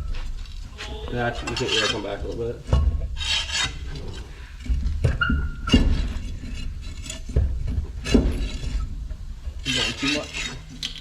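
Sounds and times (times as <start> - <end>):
metal clanks and knocks: 0.0 - 11.0.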